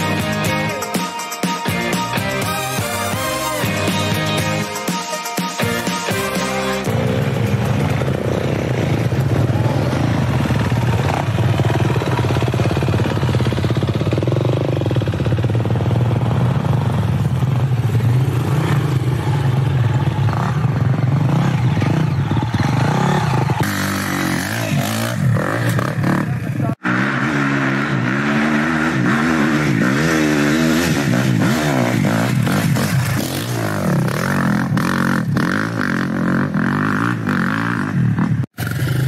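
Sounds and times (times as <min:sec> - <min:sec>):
dirt bike revving: 0:00.0 - 0:01.0, 0:05.6 - 0:39.0
dirt bike engines droning: 0:00.0 - 0:04.8, 0:05.6 - 0:39.0.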